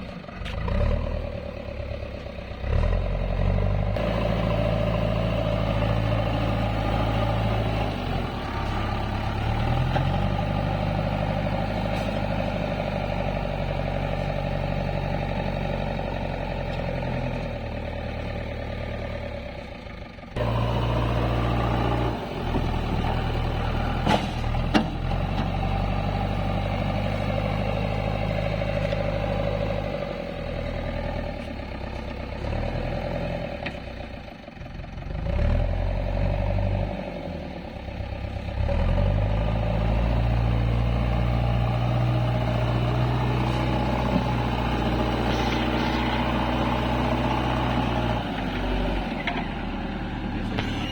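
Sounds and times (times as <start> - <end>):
diesel engine under load: 0.0 - 50.9.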